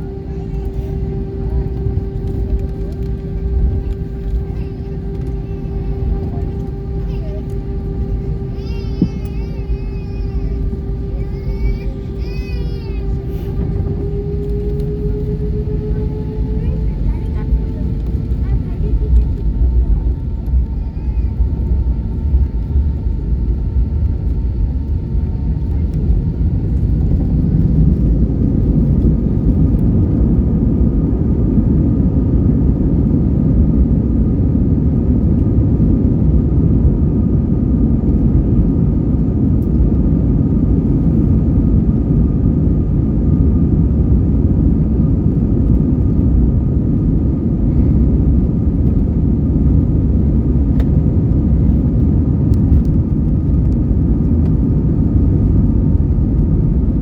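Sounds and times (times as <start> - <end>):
jet engines rumbling with fan whine: 0.0 - 57.0.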